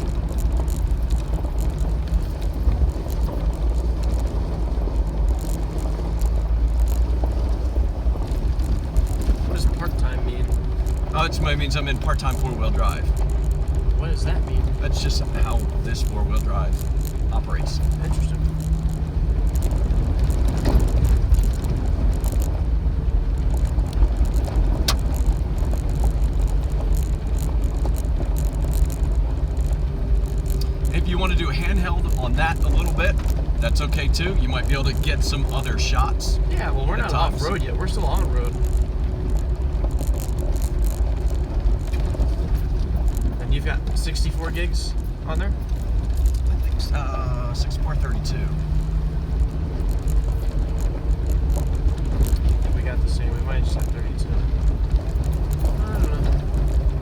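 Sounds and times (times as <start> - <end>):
car engine and road noise: 0.0 - 57.0
faint clicks and rattles: 0.0 - 57.0.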